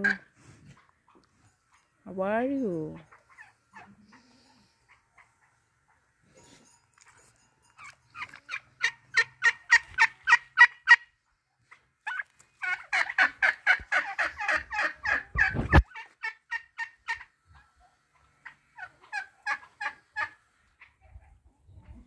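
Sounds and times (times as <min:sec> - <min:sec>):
turkeys calling: 0:00.0 - 0:01.2, 0:03.0 - 0:06.1, 0:07.8 - 0:21.3.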